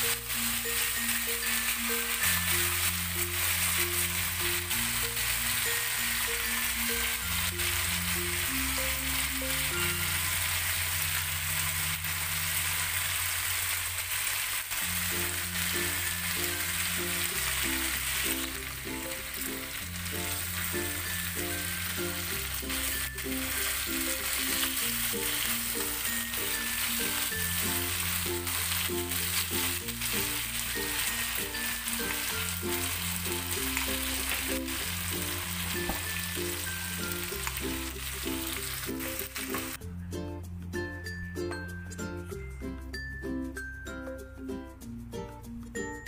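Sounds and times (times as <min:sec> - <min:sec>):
background music with bass line: 0:00.0 - 0:12.6, 0:14.9 - 0:46.0
chicken sizzling in oil: 0:00.0 - 0:39.8.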